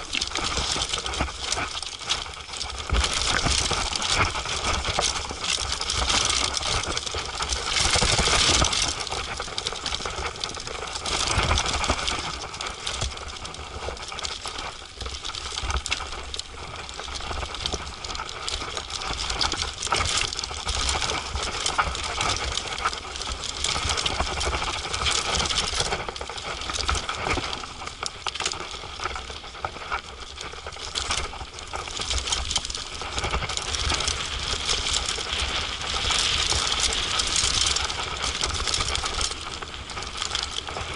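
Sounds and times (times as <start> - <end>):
bike rattling on rough trail: 0.0 - 40.9.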